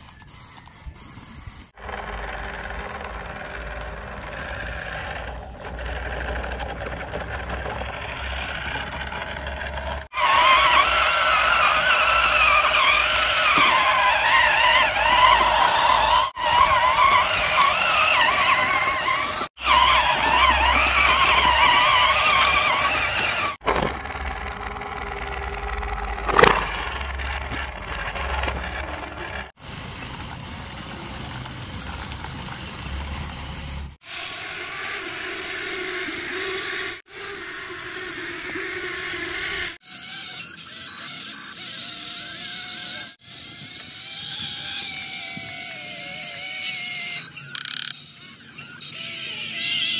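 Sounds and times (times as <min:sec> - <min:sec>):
toy electric motors whining: 0:00.0 - 0:49.9.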